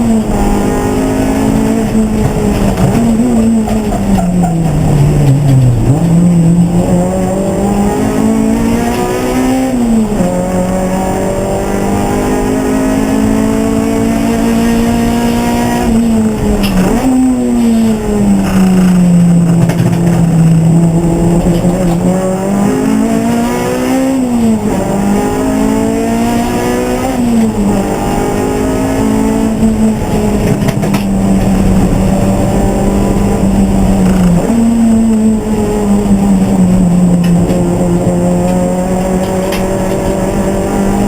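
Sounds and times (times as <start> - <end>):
race car engine: 0.0 - 41.0.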